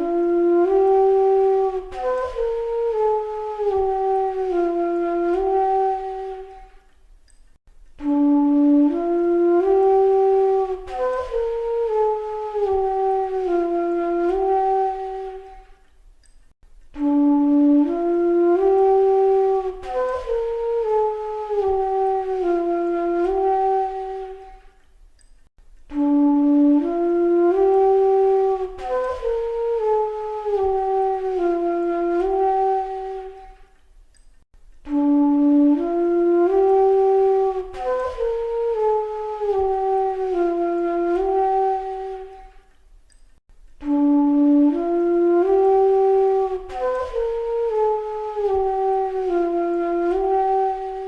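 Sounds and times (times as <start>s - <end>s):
slow flute-like melody: 0.0s - 51.0s.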